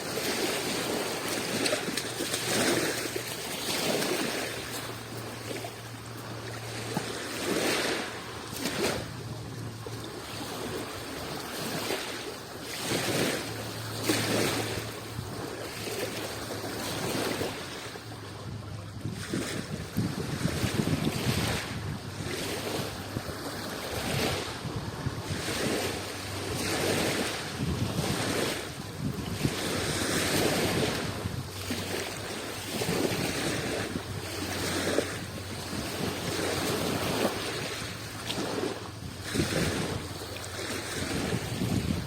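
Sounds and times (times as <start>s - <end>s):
sea waves washing in: 0.0s - 42.0s.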